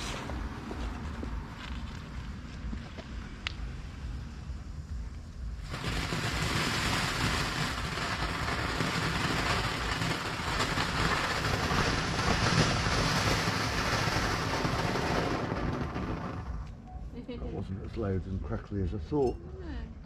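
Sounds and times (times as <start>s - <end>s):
firework fountain hissing: 0.0s - 17.3s.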